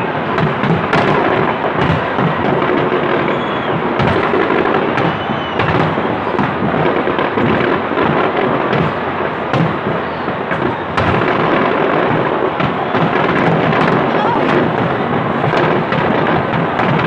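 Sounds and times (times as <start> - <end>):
fireworks rumble and crackle: 0.0 - 17.0
sharp firework bangs: 0.0 - 17.0.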